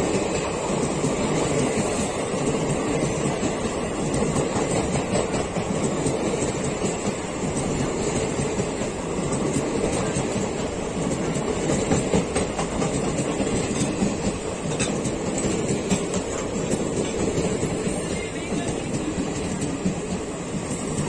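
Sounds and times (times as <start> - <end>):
clickety-clack over rail joints: 0.0 - 21.0
train wheels rumbling on rails: 0.0 - 21.0.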